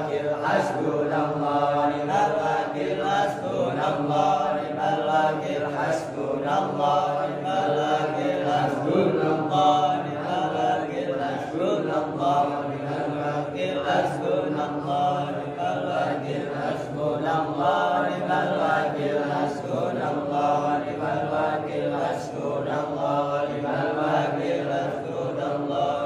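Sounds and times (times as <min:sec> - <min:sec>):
man chanting into a microphone: 0:00.0 - 0:26.0.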